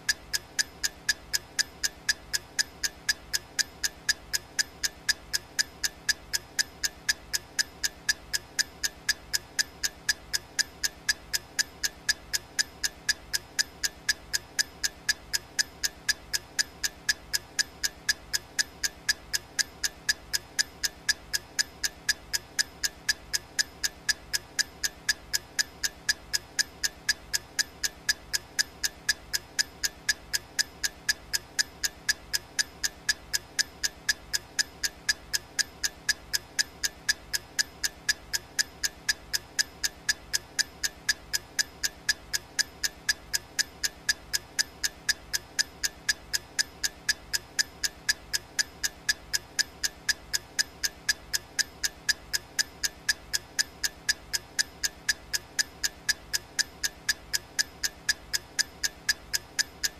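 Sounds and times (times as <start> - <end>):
countdown timer ticking: 0.0 - 59.9.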